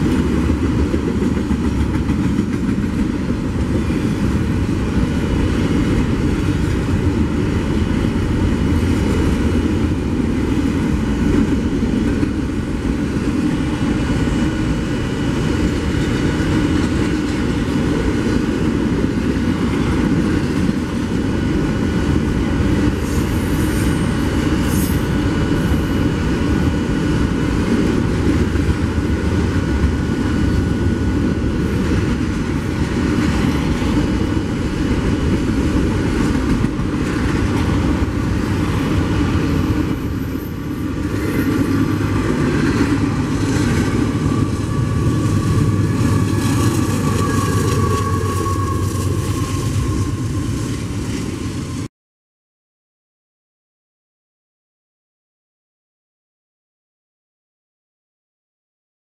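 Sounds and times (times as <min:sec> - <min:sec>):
train rumbling on rails: 0:00.0 - 0:51.9.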